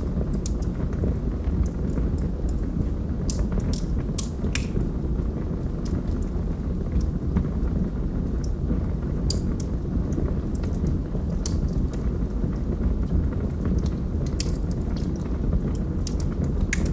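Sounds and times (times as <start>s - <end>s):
fire crackling and popping: 0.0s - 16.9s.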